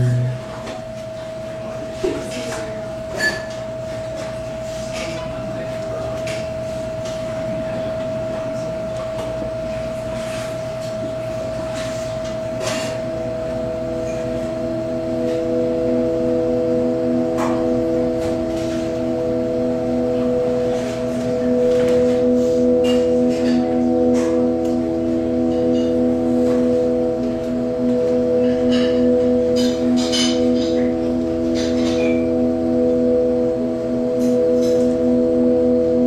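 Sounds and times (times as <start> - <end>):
low hum: 0.0 - 1.8, 5.3 - 36.0
held drone tone: 0.0 - 36.0
low sustained tones: 0.0 - 36.0.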